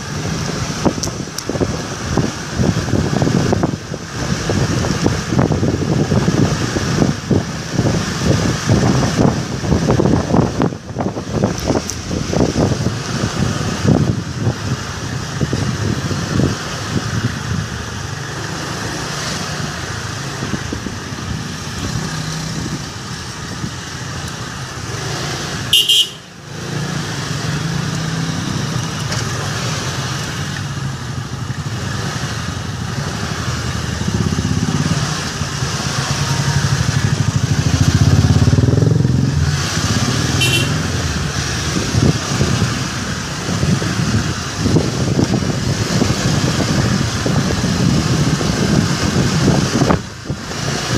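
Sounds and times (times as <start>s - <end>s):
scooter engines running: 0.0s - 50.9s.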